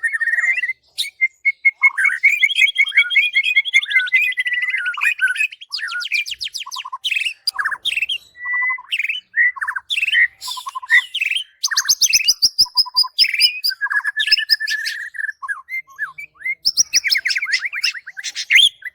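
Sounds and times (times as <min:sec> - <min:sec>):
songbird singing: 0:00.0 - 0:18.9.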